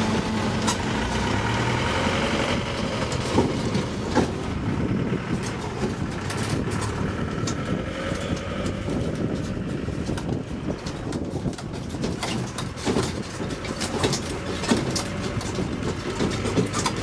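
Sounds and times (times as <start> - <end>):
engine drone: 0.0 - 17.0
road and carriage rumble: 0.0 - 17.0.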